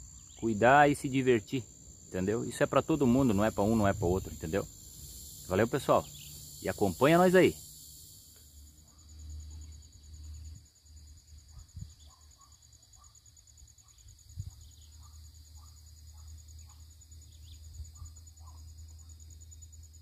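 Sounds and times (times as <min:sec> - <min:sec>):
faint chirps: 0:00.0 - 0:20.0
insect trilling: 0:00.0 - 0:20.0.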